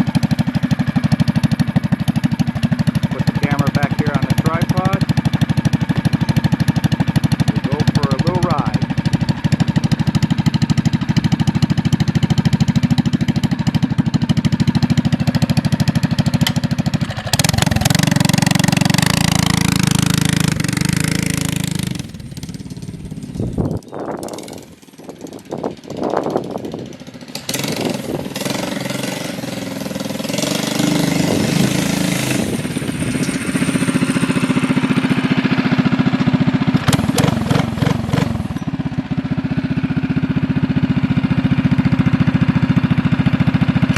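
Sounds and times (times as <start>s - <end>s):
mini bike engine revving: 0.0s - 43.9s.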